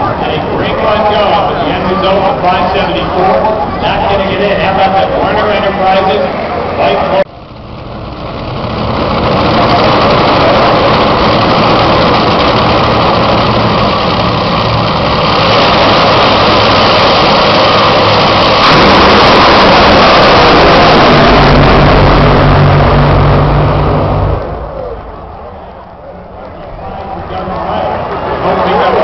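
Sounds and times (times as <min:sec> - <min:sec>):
dragster engines roaring: 0:00.0 - 0:29.0.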